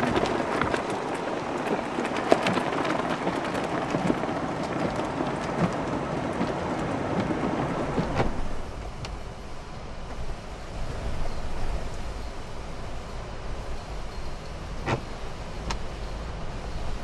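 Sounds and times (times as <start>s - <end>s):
blizzard wind blowing: 0.0s - 17.0s
driven snow ticking: 0.0s - 17.0s
low wind rumble on microphone: 0.0s - 17.0s.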